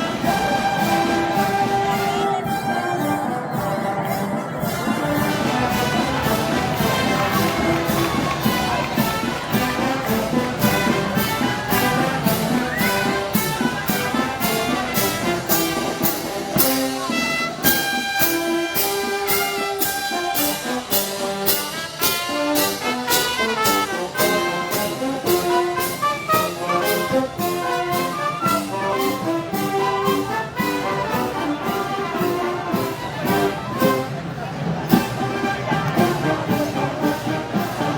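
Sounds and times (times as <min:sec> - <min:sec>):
percussion beat: 0:00.0 - 0:37.9
trumpets and trombones melody: 0:00.0 - 0:37.9.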